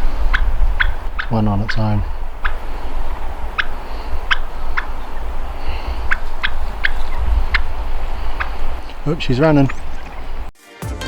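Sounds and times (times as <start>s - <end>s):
wind on microphone: 0.0s - 8.9s
turkeys calling: 0.0s - 10.5s.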